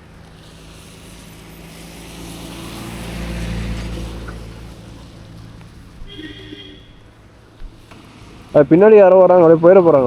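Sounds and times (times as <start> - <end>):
vehicle driving past: 0.0 - 10.0.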